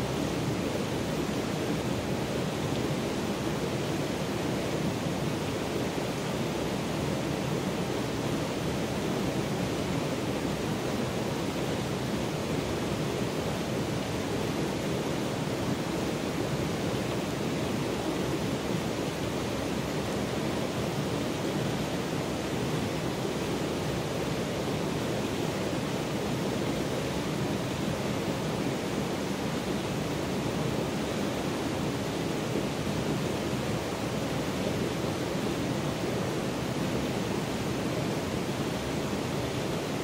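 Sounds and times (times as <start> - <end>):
creek water rushing over rocks: 0.0 - 40.0.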